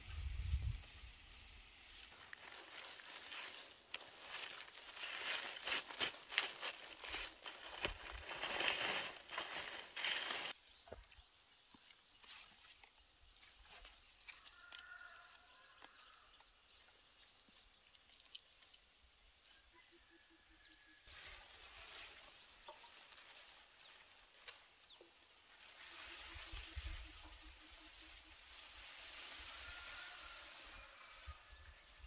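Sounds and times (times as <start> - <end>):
dry leaves rustling and crackling: 0.2 - 10.6, 13.4 - 16.4, 17.0 - 19.6, 21.1 - 32.0.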